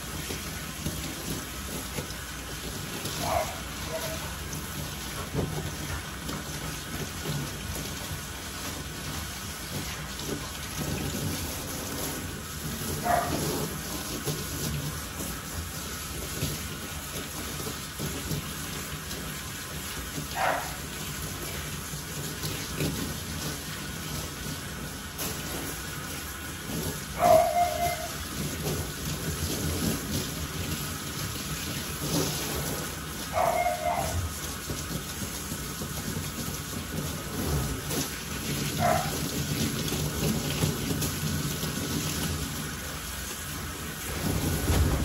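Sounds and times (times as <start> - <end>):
water splashing in metal tub: 0.0 - 45.0
water sprayer hissing: 0.0 - 45.0.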